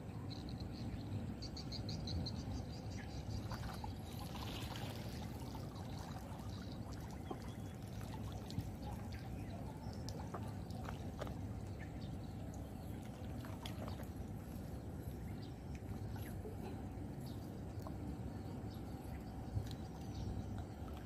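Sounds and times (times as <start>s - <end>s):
steady low rumble: 0.0s - 21.0s
water trickling and dripping: 3.0s - 21.0s.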